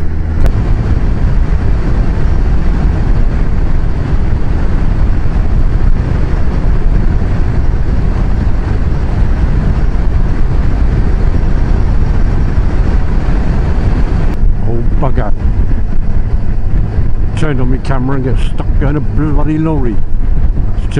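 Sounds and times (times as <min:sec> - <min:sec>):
motorcycle engine cruising: 0:00.0 - 0:20.9
wind rumble on microphone: 0:00.0 - 0:20.9.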